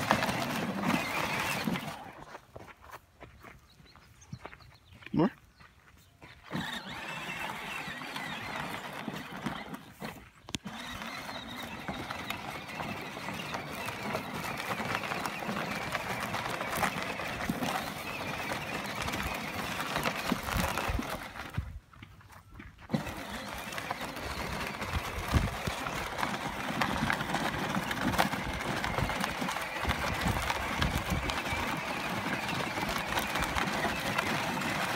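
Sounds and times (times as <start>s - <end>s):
electric motors whining: 0.0s - 2.2s, 6.4s - 21.7s, 22.9s - 34.9s
plastic wheels rattling on dirt: 0.0s - 34.9s.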